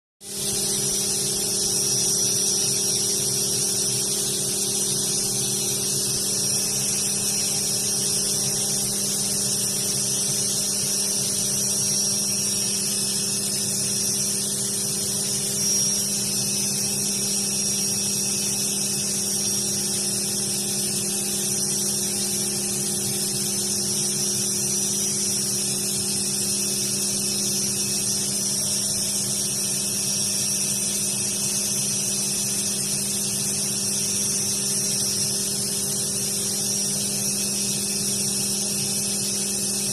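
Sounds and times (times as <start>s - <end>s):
cnc machine milling metal: 0.3s - 39.9s.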